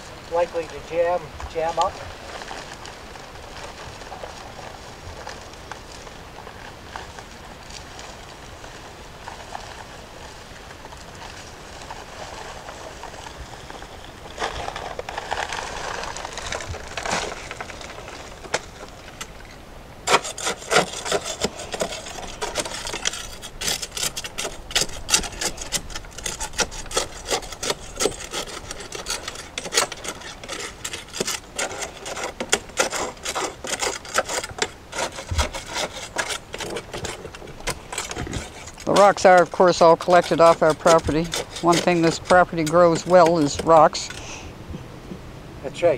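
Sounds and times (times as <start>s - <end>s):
blade scraping through mix and stones: 0.0s - 19.4s, 20.0s - 44.5s.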